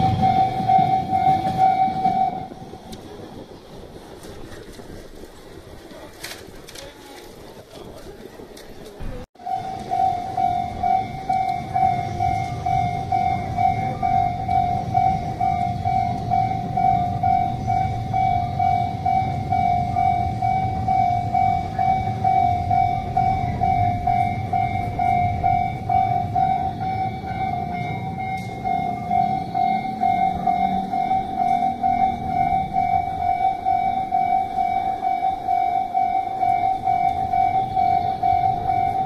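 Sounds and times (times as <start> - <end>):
level-crossing warning bell ringing: 0.0 - 3.4, 9.4 - 39.0
electric train rumbling past: 0.0 - 39.0.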